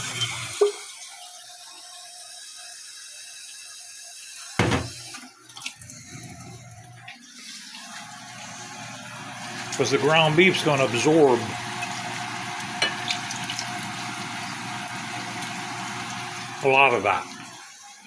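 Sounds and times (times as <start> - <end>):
kitchen tap running: 0.0 - 18.0.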